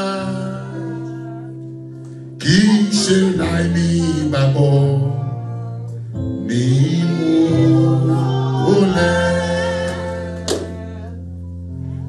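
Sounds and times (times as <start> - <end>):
bass line: 0.0 - 12.0
guitar: 0.0 - 12.0
person singing gospel: 0.0 - 12.0.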